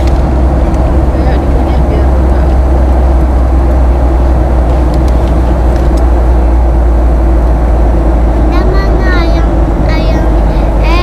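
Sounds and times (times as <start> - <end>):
airliner cabin rumble: 0.0 - 11.0
constant cabin hum: 0.0 - 11.0.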